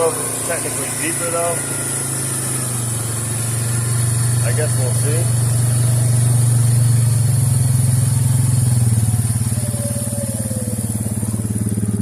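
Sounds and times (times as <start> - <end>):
quad bike engine running: 0.0 - 12.0
quad moving through water: 0.0 - 12.0.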